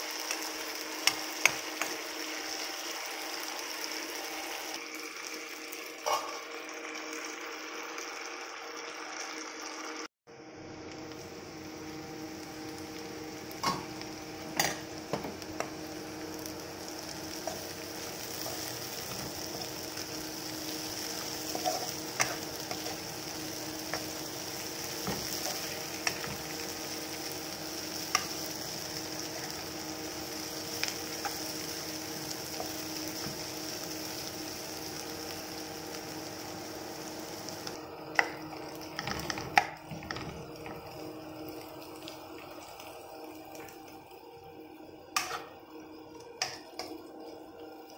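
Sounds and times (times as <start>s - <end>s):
potatoes sizzling in oil: 0.0s - 47.9s.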